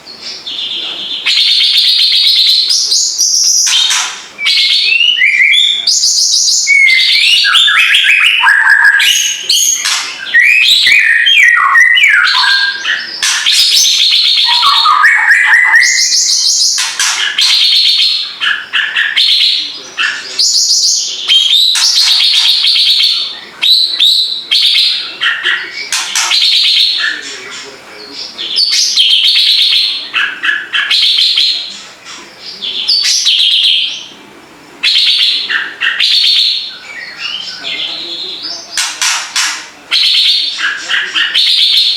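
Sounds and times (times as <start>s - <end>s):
songbird whistling and trilling: 0.4s - 27.2s, 28.4s - 31.8s, 34.8s - 41.9s.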